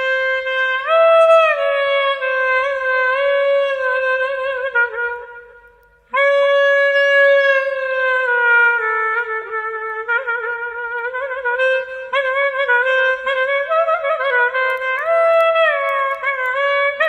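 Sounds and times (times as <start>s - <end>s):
clarinet playing slow melody: 0.0s - 17.0s.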